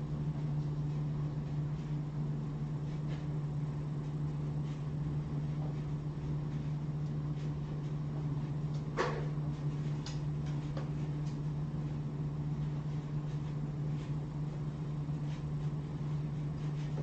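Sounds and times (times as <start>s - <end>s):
low hum of room equipment: 0.0s - 17.0s.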